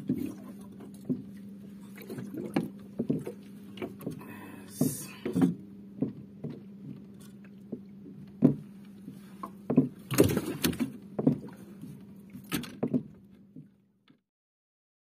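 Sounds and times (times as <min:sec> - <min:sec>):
steady low hum: 0:00.0 - 0:14.1
knocks and clunks on boat: 0:00.0 - 0:14.2.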